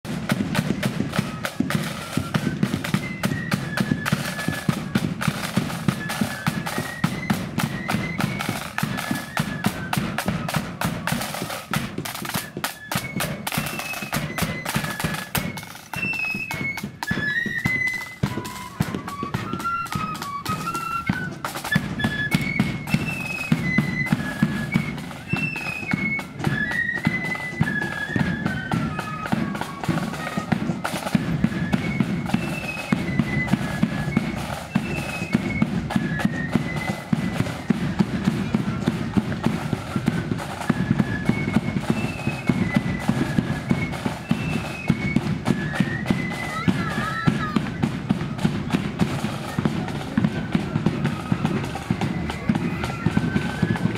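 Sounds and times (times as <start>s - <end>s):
rapid snare drumming: 0.0s - 53.9s
high flute melody: 0.1s - 53.9s.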